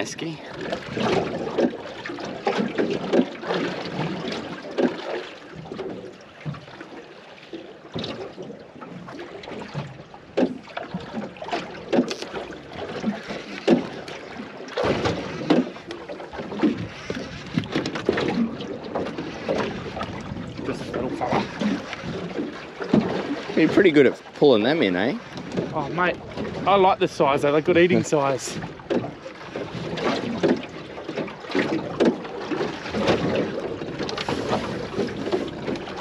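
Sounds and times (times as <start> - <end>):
water lapping against boat hull: 0.0 - 36.0.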